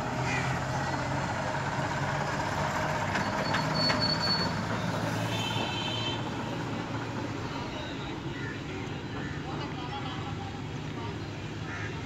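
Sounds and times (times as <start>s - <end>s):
rumble of passing vehicles: 0.0s - 12.0s.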